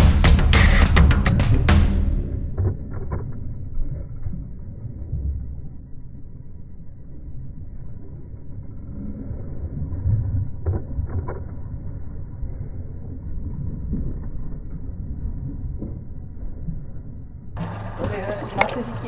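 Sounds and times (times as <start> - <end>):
muffled boat engine rumble: 0.0 - 19.0.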